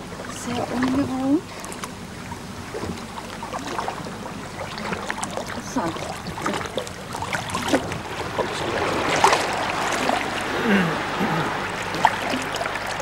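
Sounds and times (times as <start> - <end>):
stream flowing: 0.0 - 13.0
water splashing from wading: 0.0 - 13.0.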